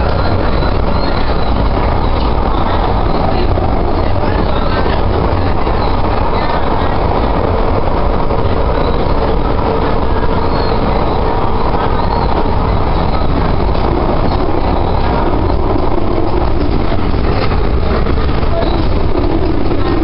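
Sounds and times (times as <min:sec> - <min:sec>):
faint steady whine: 0:00.0 - 0:20.0
wheels rumbling on rails: 0:00.0 - 0:20.0.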